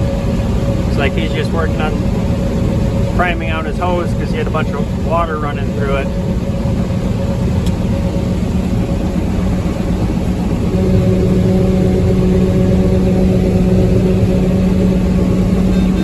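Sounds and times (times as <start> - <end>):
combine harvester drone: 0.0 - 16.0
low hum: 0.0 - 16.0.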